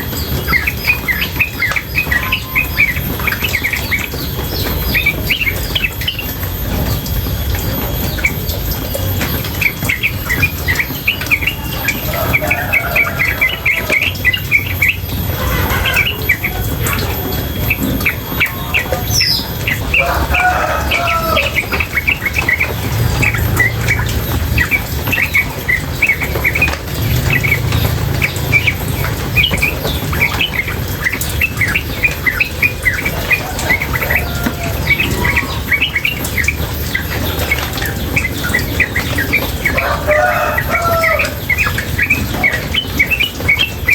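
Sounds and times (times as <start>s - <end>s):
bird chattering chirps: 0.0s - 43.9s
running water: 0.0s - 43.9s.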